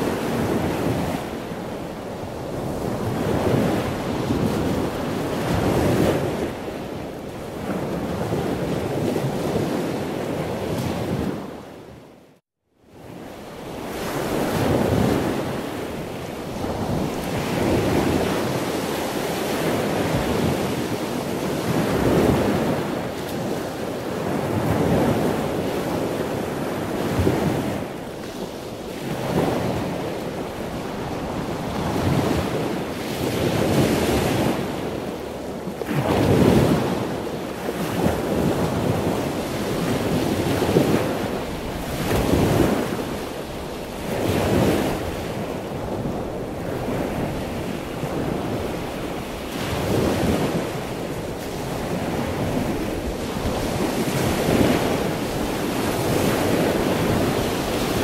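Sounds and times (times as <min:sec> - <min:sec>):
wind buffeting microphone: 0:00.0 - 0:12.0, 0:13.0 - 0:58.0.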